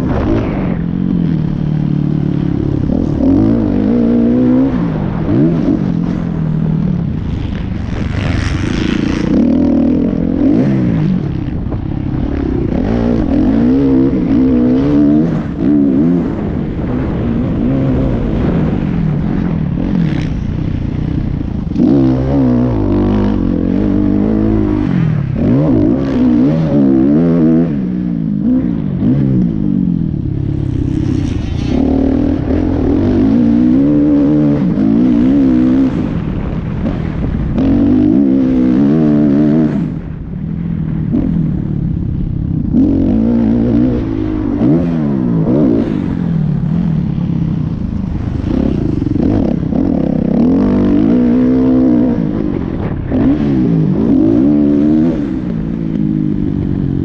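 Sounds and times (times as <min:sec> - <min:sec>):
dirt bike engine revving: 0:00.0 - 0:40.3, 0:42.5 - 0:57.0.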